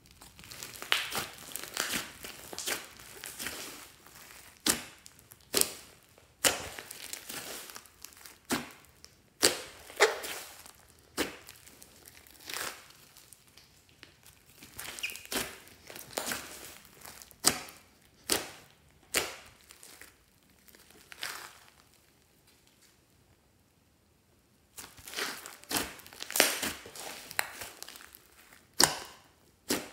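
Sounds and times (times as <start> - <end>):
sticky slime crackles and pops: 0.0 - 22.8, 24.7 - 29.9.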